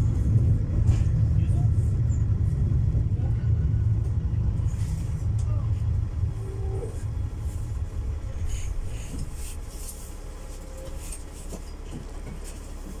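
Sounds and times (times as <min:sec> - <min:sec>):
diesel railcar rumble: 0:00.0 - 0:13.0.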